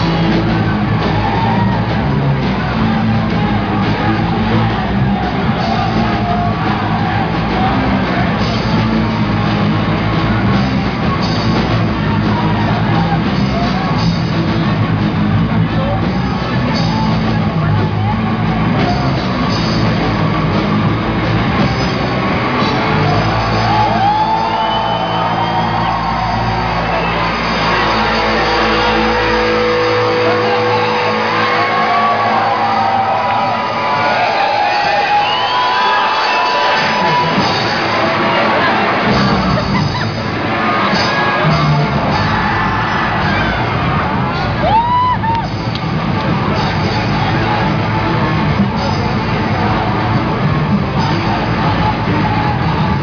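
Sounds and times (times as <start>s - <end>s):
distorted electric guitars: 0.0s - 53.0s
drums: 0.0s - 53.0s
shouted vocals: 0.0s - 53.0s.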